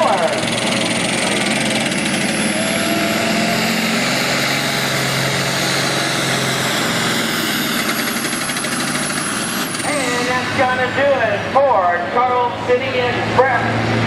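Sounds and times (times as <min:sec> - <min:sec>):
tractor engine running hard: 0:00.0 - 0:14.0
turbocharger whine: 0:00.0 - 0:14.0.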